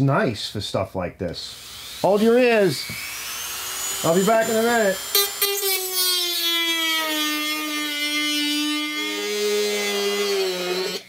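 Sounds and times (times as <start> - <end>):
rotary tool cutting plastic: 1.7 - 11.0.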